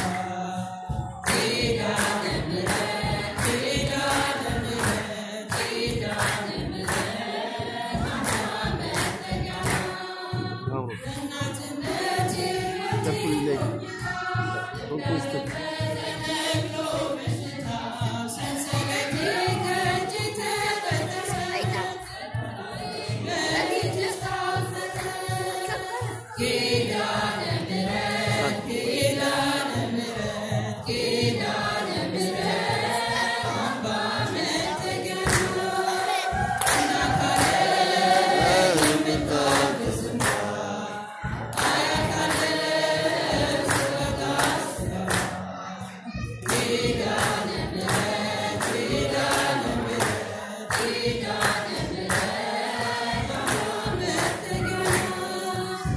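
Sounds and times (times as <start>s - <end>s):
choir singing: 0.0s - 55.9s
percussive beat: 0.0s - 55.9s.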